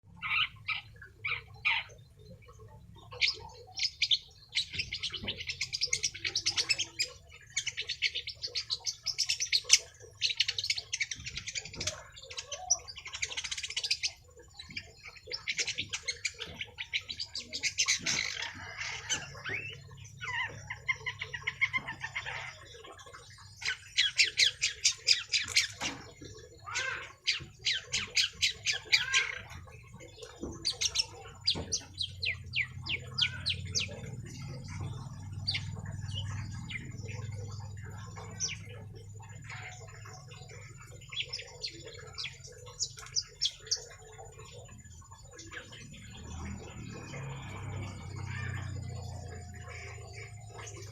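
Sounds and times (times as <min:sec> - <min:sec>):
shrike chattering trills: 0:00.1 - 0:50.9.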